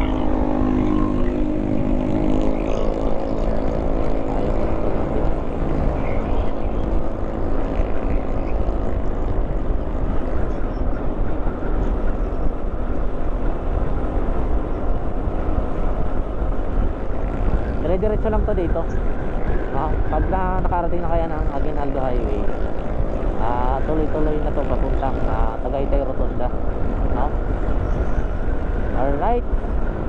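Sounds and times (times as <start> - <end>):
motorcycle engine: 0.0 - 30.0
road rumble: 0.0 - 30.0
wind rush: 0.0 - 30.0.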